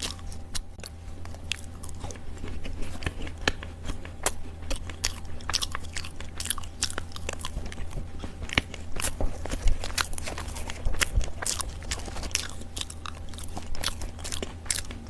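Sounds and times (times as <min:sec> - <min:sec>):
earth crunching being chewed: 0:00.0 - 0:15.0
low steady hum: 0:00.0 - 0:15.0.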